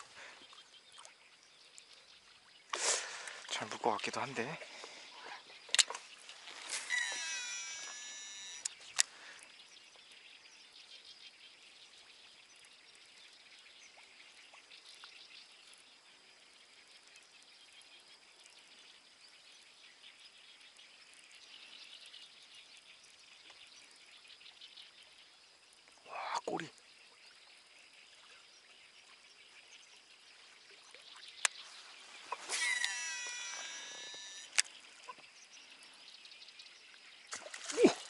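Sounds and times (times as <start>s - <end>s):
chirring of small creatures: 0.0s - 38.0s.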